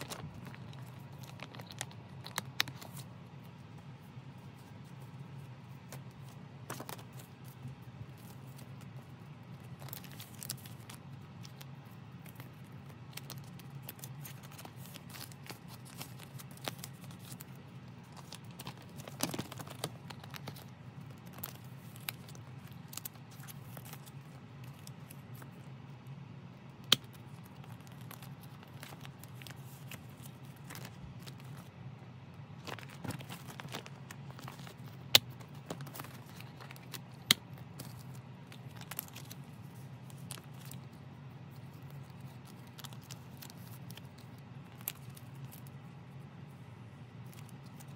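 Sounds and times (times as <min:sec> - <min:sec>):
low steady hum: 0:00.0 - 0:47.9
plastic sleeves crinkling: 0:00.0 - 0:47.9.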